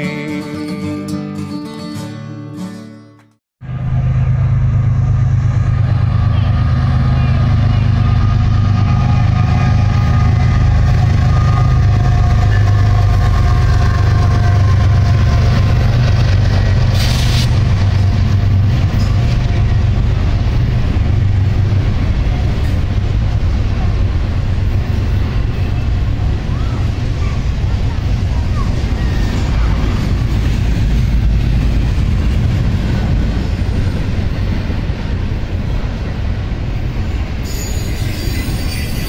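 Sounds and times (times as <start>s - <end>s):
freight train rumbling past: 3.6s - 39.0s.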